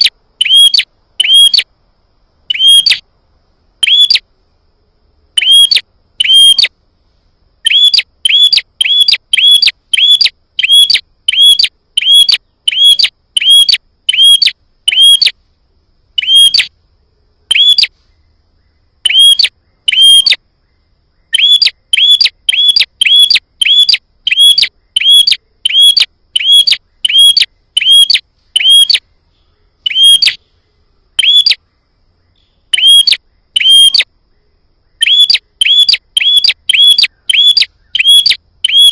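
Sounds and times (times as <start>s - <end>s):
songbird sharp chirps: 0.0s - 1.7s, 2.4s - 3.1s, 3.8s - 4.3s, 5.4s - 6.8s, 7.6s - 15.4s, 16.1s - 38.9s.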